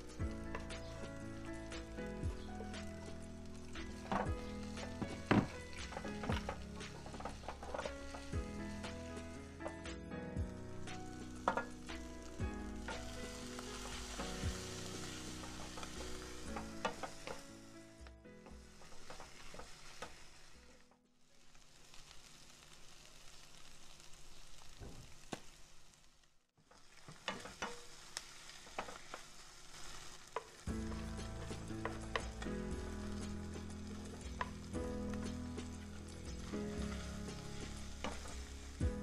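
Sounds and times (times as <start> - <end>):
fish sizzling in oil: 0.0 - 39.0.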